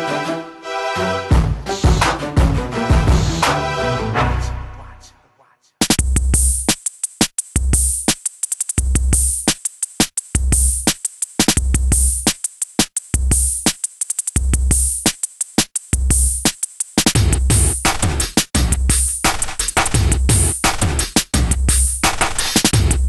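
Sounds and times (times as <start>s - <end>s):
drum-machine beat music: 1.3s - 3.8s, 4.8s - 23.0s.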